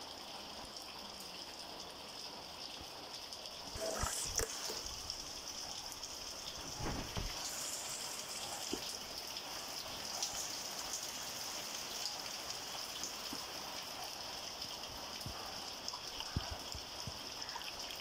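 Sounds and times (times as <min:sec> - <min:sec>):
water drips: 0:02.6 - 0:18.0
rain hissing: 0:03.6 - 0:18.0.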